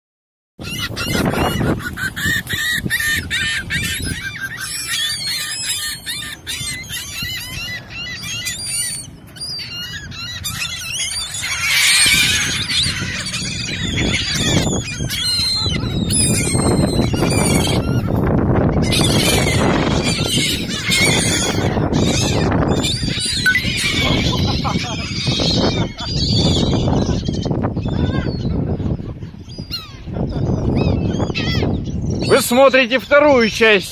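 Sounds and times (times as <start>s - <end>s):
gulls squawking: 0.6s - 33.9s.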